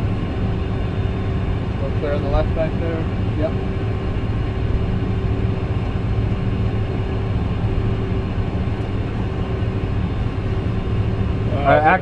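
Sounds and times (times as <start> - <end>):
jet engines hum while taxiing: 0.0 - 12.0.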